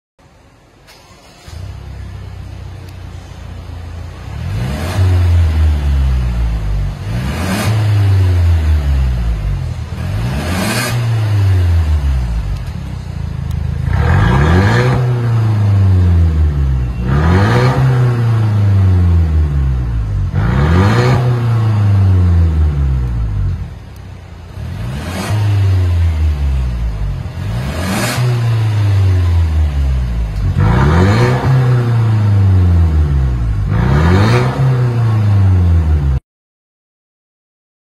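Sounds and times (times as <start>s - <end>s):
car engine idling: 0.2s - 36.2s
car engine revving: 1.2s - 36.2s.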